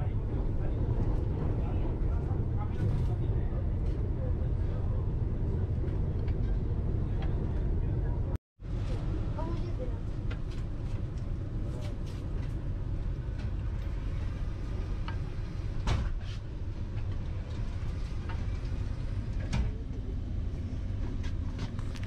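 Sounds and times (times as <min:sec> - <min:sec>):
train coach low rumble: 0:00.0 - 0:22.0.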